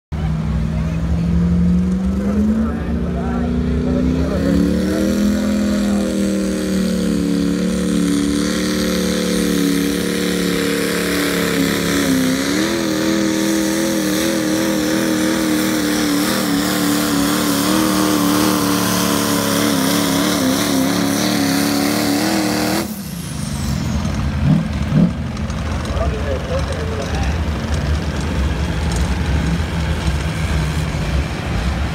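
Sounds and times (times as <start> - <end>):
diesel truck engine high revs: 0.2 - 31.9.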